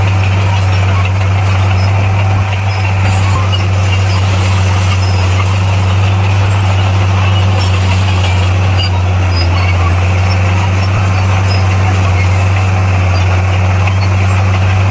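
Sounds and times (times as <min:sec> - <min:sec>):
bulldozer diesel engine running: 0:00.0 - 0:14.9.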